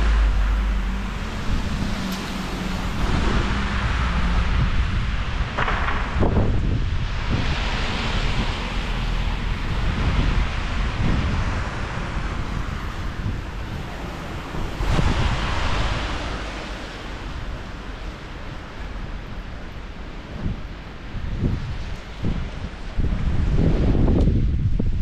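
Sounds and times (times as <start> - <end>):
gusty wind buffeting microphone: 0.0 - 25.0.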